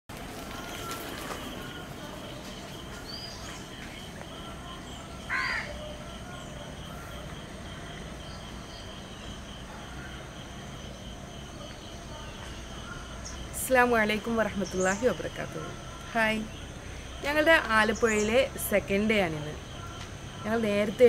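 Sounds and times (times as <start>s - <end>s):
bird calling: 0.2s - 21.0s.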